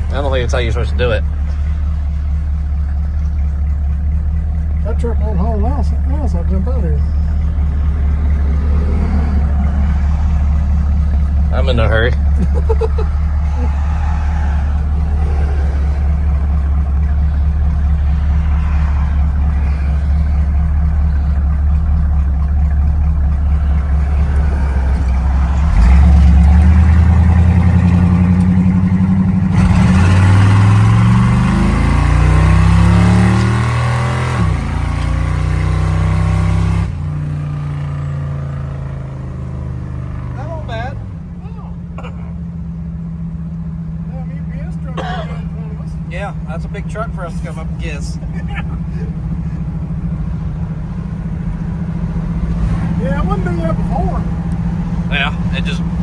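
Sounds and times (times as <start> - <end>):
pickup truck engine accelerating: 0.0 - 56.0.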